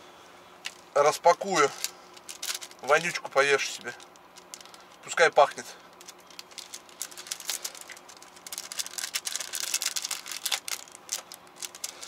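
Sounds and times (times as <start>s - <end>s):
plastic packaging crinkling: 1.4s - 12.0s.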